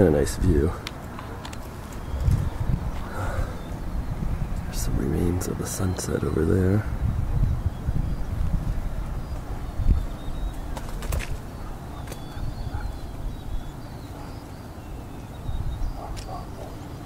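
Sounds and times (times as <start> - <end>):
wind noise on microphone: 0.0 - 16.7
faint high bird chirps: 1.8 - 8.5, 9.1 - 17.0.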